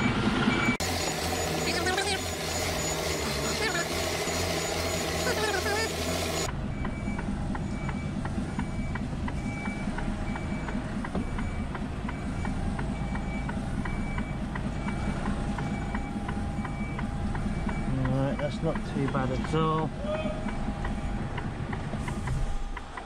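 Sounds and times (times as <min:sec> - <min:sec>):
reversing beeper: 0:00.0 - 0:22.8
diesel engine running low: 0:00.0 - 0:23.0
quick ticking: 0:01.6 - 0:23.0.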